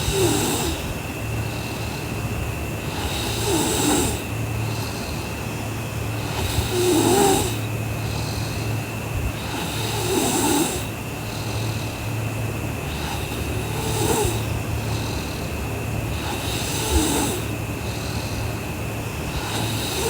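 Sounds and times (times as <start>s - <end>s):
girl snoring: 0.0s - 2.2s, 2.8s - 5.4s, 6.1s - 12.1s, 12.8s - 20.0s
steady low hum: 0.0s - 20.0s.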